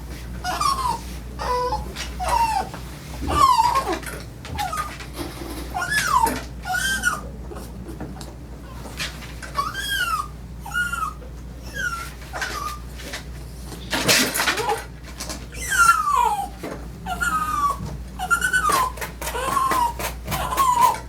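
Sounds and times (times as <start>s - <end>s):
dog whining: 0.4s - 8.0s, 8.6s - 13.0s, 14.4s - 21.0s.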